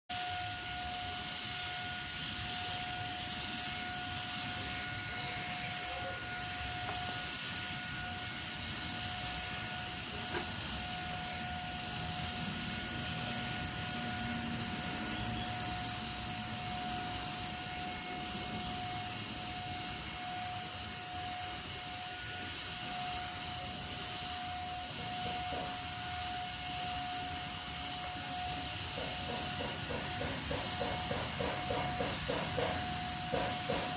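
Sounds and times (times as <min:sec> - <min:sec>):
paint spray machine hissing: 0:00.1 - 0:33.9.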